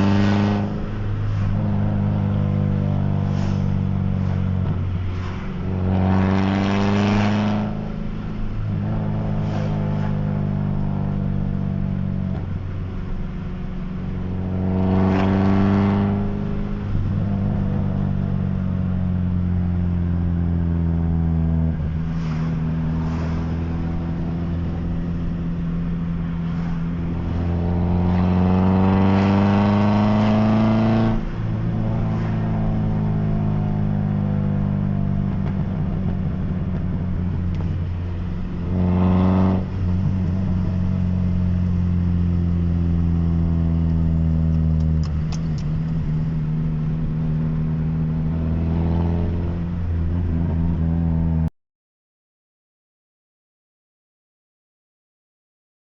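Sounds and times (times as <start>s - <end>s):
car engine idling and revving: 0.0s - 51.5s.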